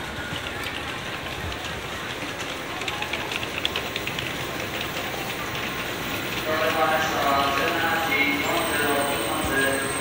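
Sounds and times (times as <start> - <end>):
train rolling at low speed: 0.0 - 10.0.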